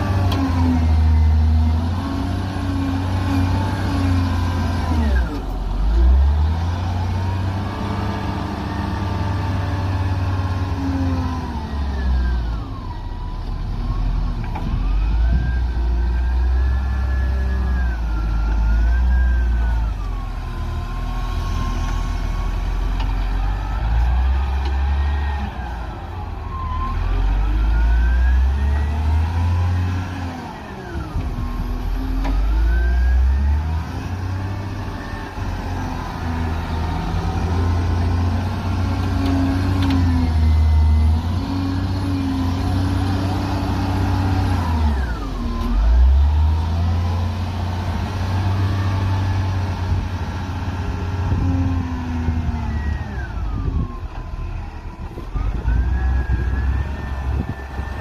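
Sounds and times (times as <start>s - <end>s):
wheel loader diesel engine revving: 0.0s - 58.0s
high engine whine: 11.3s - 58.0s.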